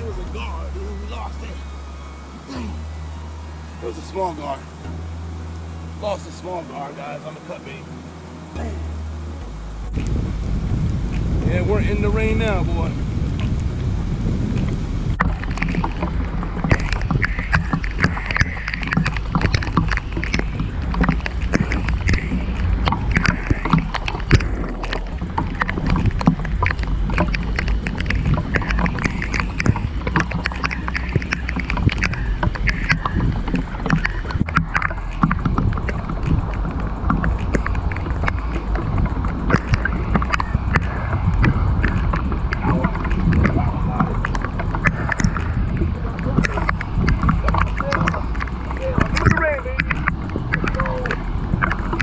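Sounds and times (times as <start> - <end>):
rain drops pattering: 0.0 - 52.0
wind rumble on microphone: 8.0 - 52.0.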